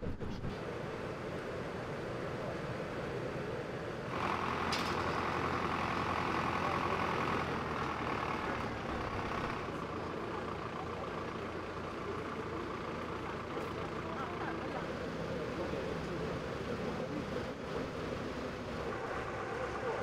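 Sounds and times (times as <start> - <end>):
heavy vehicle engines idling: 0.2 - 20.0.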